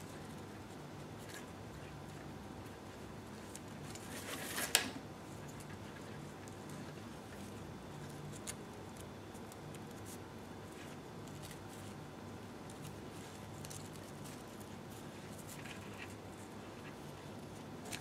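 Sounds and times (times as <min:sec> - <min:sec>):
low steady hum: 0:00.0 - 0:18.0
ribbons rustling while braided: 0:00.0 - 0:18.0.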